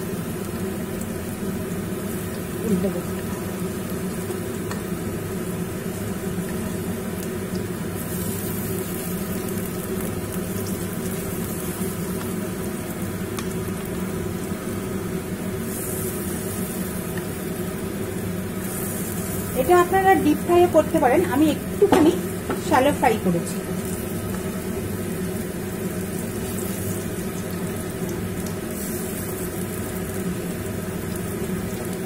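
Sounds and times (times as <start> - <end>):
oil sizzling in a frying pan: 0.0 - 32.0.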